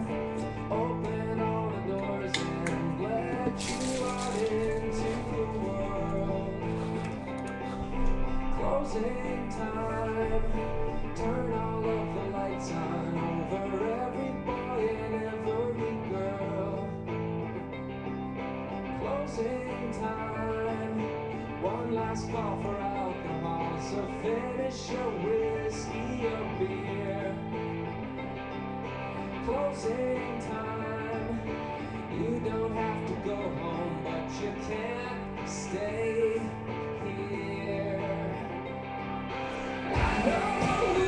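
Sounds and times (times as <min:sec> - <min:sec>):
guitar background music: 0:00.0 - 0:41.0.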